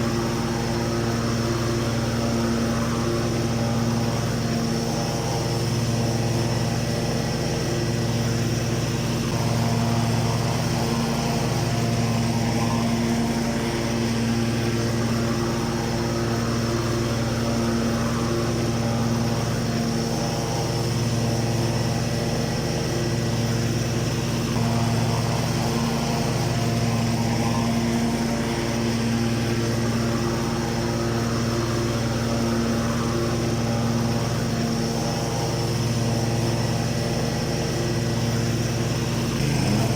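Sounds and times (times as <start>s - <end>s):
riding lawn mower engine: 0.0s - 39.9s.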